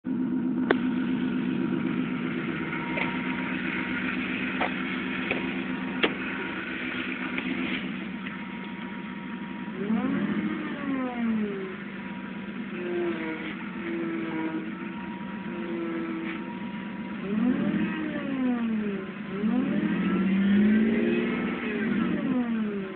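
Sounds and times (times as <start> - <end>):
vehicle engine running: 0.0 - 22.9.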